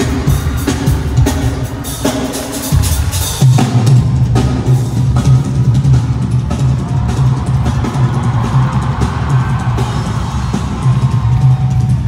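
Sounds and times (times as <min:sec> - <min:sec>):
drum kit playing live: 0:00.0 - 0:12.0.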